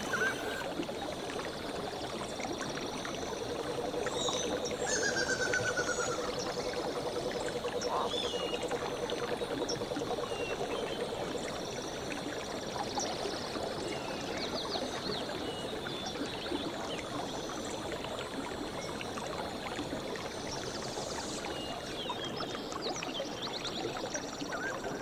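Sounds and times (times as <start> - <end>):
stream babbling over stones: 0.0 - 25.0.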